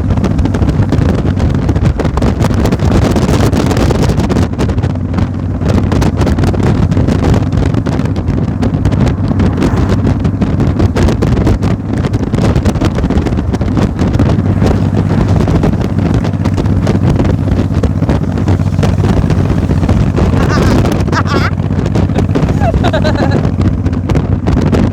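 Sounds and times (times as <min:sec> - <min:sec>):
engine drone: 0:00.0 - 0:24.9
wind buffeting microphone: 0:00.0 - 0:24.9.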